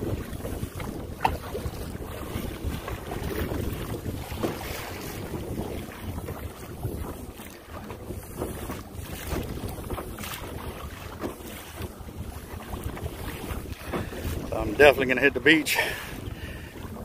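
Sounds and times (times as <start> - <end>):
water splashing against hull: 0.0 - 17.0
wind buffeting microphone: 0.0 - 17.0.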